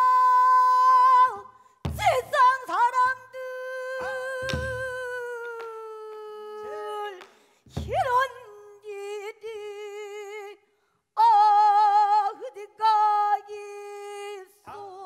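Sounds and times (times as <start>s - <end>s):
woman singing with vibrato: 0.0s - 10.6s, 11.2s - 15.0s.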